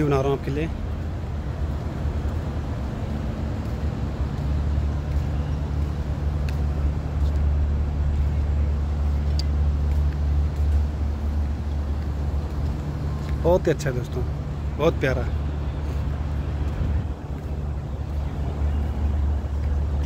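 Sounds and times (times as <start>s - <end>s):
low city rumble: 0.0s - 20.0s.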